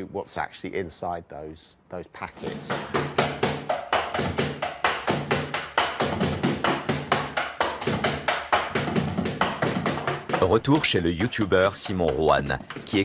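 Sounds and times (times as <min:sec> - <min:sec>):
electronic drum kit drumming: 0:02.4 - 0:13.0.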